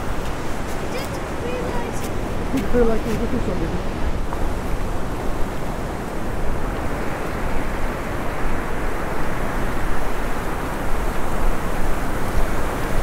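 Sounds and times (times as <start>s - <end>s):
small waves breaking on sand: 0.0s - 13.0s
wind rumbling on microphone: 0.0s - 13.0s.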